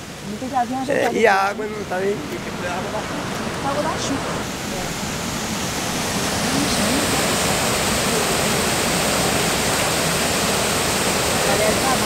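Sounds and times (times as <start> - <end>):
water rushing over overflow: 0.0 - 12.0.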